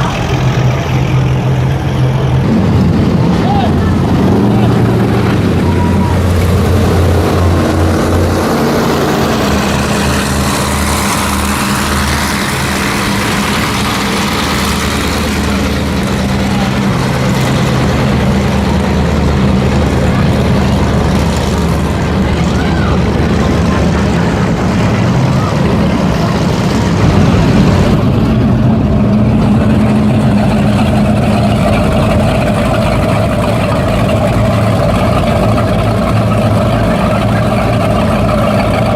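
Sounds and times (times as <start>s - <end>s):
boat engines rumbling: 0.0s - 38.9s.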